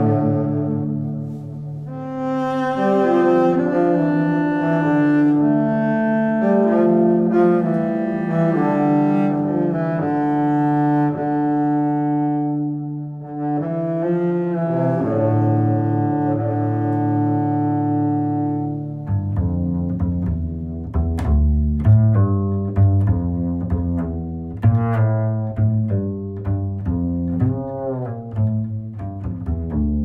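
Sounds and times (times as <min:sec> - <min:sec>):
slow instrumental music: 0:00.0 - 0:30.0.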